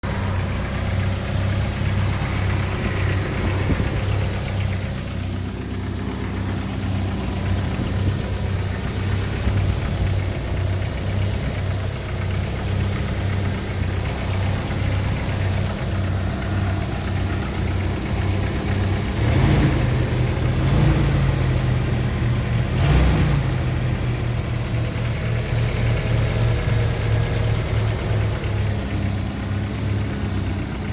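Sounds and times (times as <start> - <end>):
car engine idling with knocking: 0.0 - 30.9.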